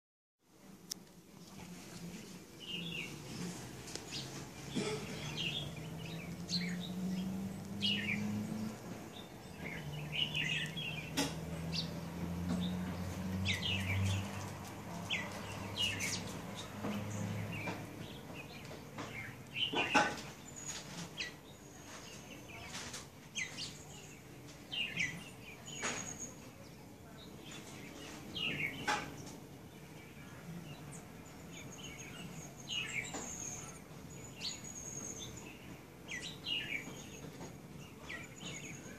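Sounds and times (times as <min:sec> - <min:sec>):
small birds chirping: 0:00.6 - 0:38.9.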